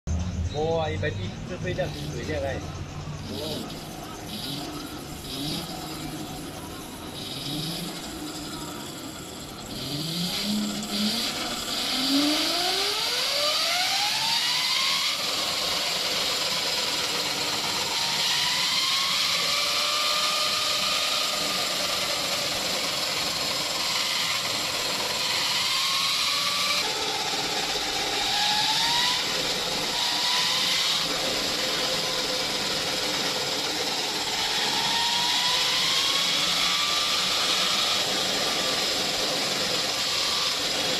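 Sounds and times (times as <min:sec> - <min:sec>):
spinning wheel whirring: 0:00.1 - 0:40.9
electric motor whining: 0:01.4 - 0:40.9.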